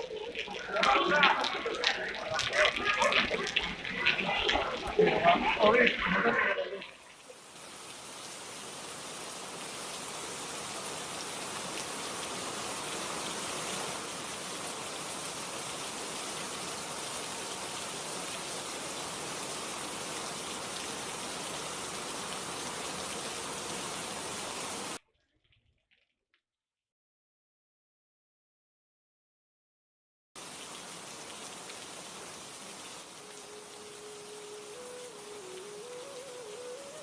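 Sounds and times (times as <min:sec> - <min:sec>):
steady rain falling: 0:00.0 - 0:25.0, 0:30.4 - 0:37.0.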